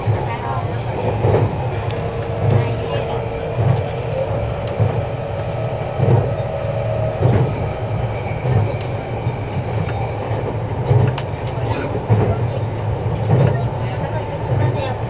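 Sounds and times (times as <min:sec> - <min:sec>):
train wheels thumping: 0:00.0 - 0:14.9
train rumbling on track: 0:00.0 - 0:15.0.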